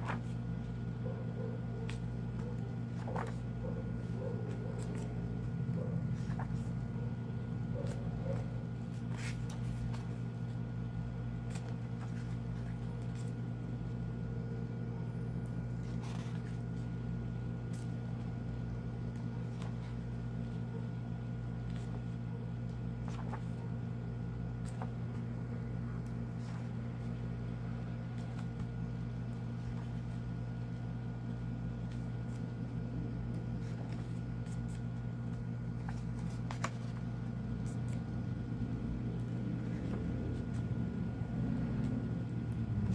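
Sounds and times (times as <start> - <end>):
book pages turning: 0.0 - 0.8, 1.8 - 13.9, 15.4 - 38.2, 39.0 - 42.0
low mechanical hum: 0.0 - 42.9.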